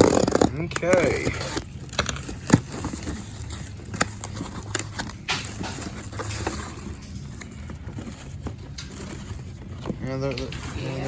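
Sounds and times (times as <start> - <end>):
cardboard rustle: 0.0 - 11.0
toy cars in packaging clicking: 0.0 - 11.0.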